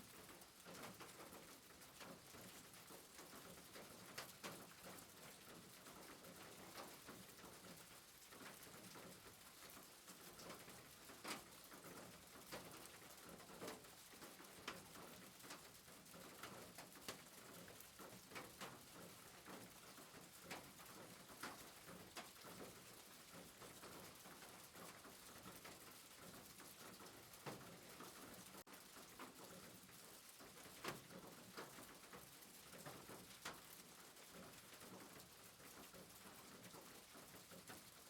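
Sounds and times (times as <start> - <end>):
raindrops ticking on a surface: 0.0 - 38.0
soft rain hiss: 0.0 - 38.0.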